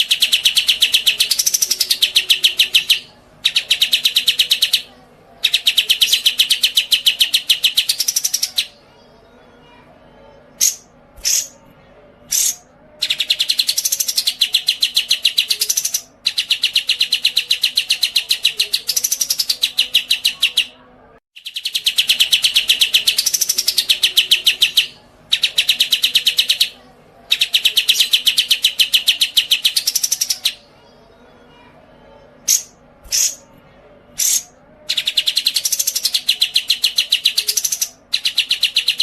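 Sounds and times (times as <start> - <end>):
songbird singing rapid trills: 0.0 - 8.8, 12.3 - 20.8, 21.4 - 30.6, 34.2 - 39.0.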